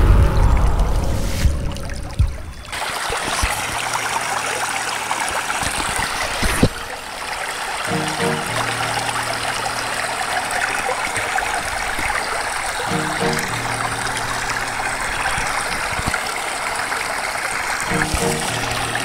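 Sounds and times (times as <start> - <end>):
small stream rushing: 2.6 - 19.0.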